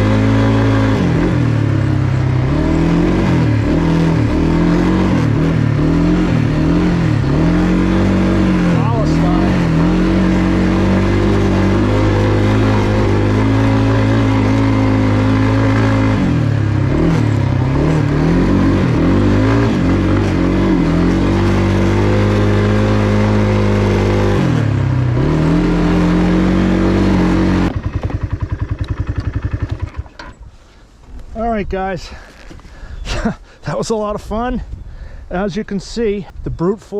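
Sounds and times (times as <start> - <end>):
atv engine revving: 0.0 - 30.4.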